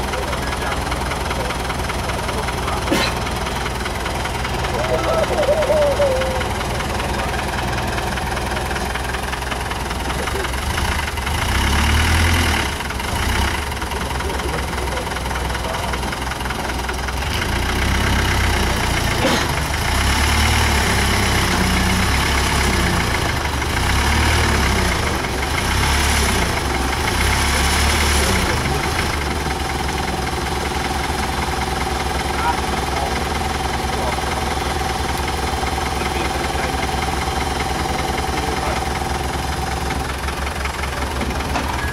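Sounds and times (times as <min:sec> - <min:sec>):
truck engine revving under load: 0:00.0 - 0:41.9.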